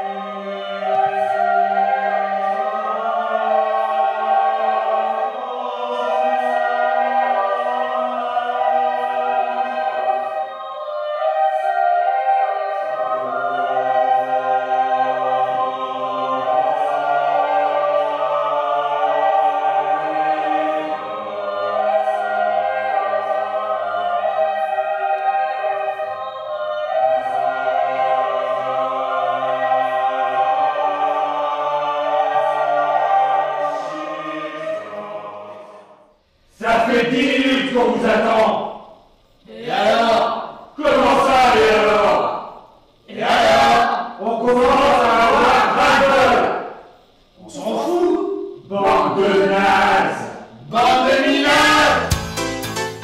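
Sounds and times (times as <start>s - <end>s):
choir singing: 0.0s - 53.0s.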